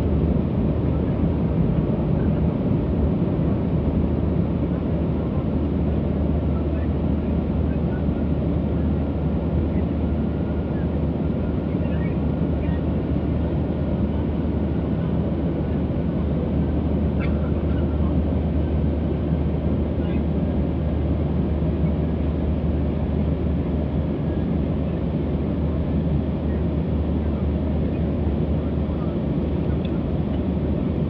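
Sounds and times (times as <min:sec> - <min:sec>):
jet engines droning: 0:00.0 - 0:31.0.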